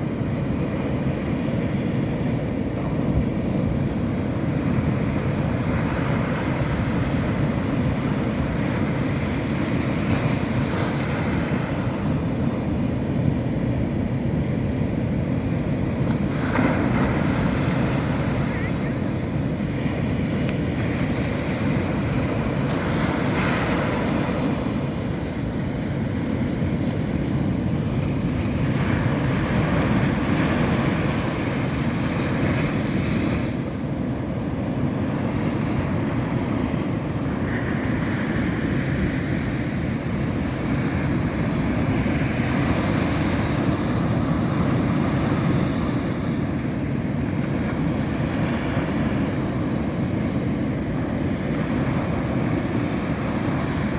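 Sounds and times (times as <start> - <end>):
hiss of breaking waves: 0.0 - 53.9
waves rumbling: 0.0 - 53.9
wind buffeting microphone: 0.0 - 53.9.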